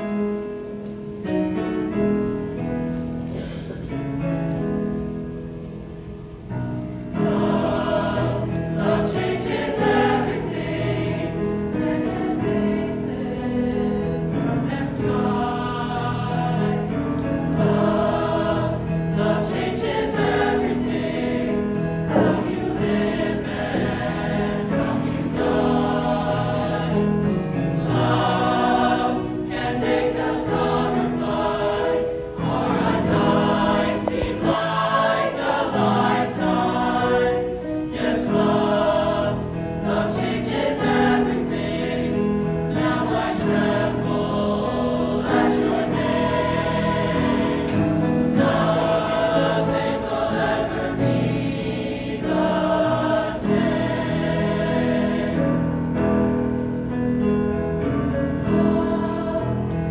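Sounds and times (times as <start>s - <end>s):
mixed choir singing: 7.1s - 56.4s, 58.3s - 59.9s.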